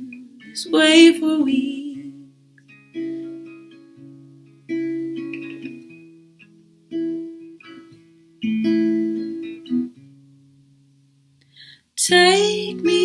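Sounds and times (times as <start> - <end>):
guitar chords ringing: 0.0 - 13.0.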